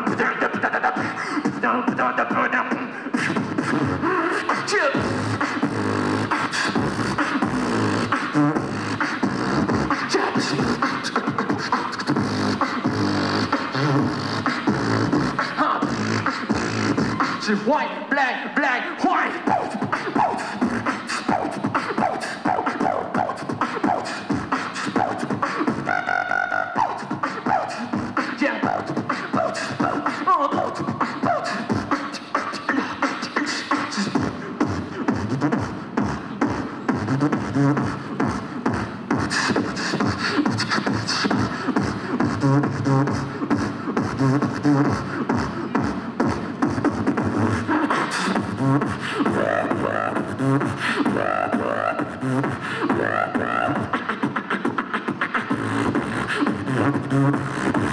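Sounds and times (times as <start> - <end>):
beatboxing through a microphone: 0.0 - 57.9.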